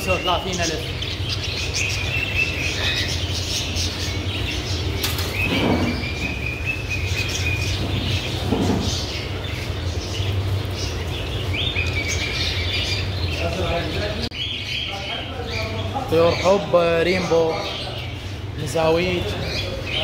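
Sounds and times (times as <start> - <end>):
budgerigars chirping and chattering: 0.0 - 20.0
steady low hum: 0.0 - 20.0.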